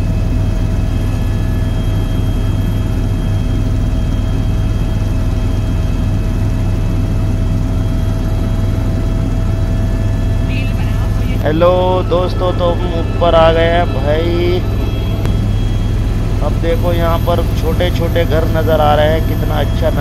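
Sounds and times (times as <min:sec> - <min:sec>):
helicopter rotor and engine drone: 0:00.0 - 0:20.0
high whining tones: 0:00.0 - 0:20.0.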